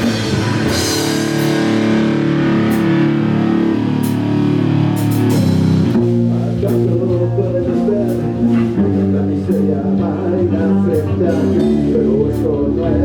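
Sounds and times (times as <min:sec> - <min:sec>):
drum kit and cymbal hits: 0:00.0 - 0:12.8
electric guitar chords: 0:00.0 - 0:13.0.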